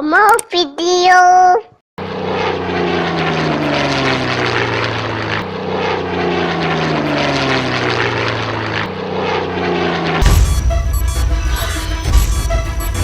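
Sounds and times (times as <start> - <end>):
propeller aeroplane engine drone: 2.0 - 13.0.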